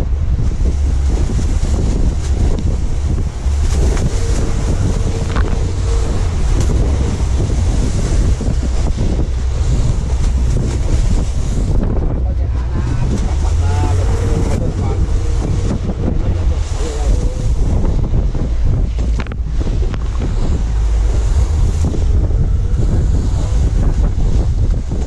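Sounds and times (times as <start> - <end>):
waves washing against hull: 0.0 - 25.0
wind buffeting microphone: 0.0 - 25.0.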